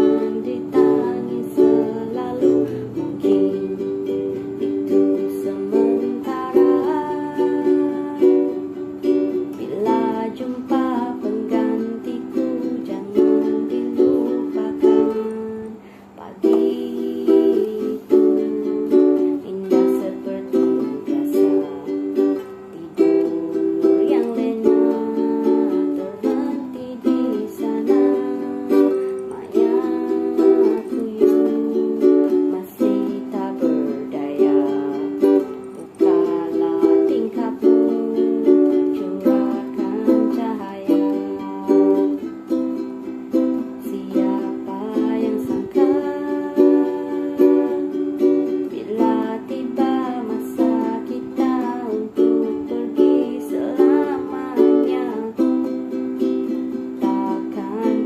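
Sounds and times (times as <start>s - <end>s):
ukulele strumming: 0.0s - 58.0s.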